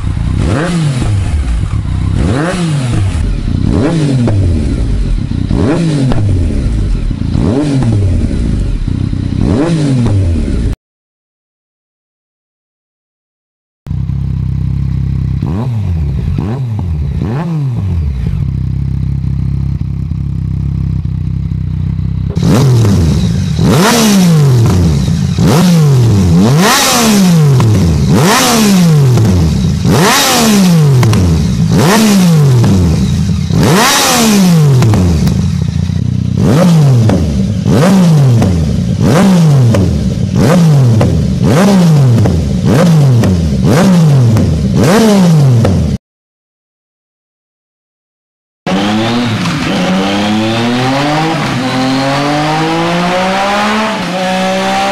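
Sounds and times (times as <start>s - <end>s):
motorcycle engine revving: 0.0s - 10.8s, 13.9s - 46.0s, 48.7s - 54.9s.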